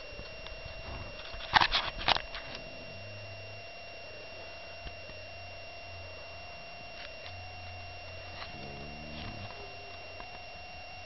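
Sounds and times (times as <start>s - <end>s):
faint hum: 0.0s - 11.0s
thin constant whine: 0.0s - 11.0s.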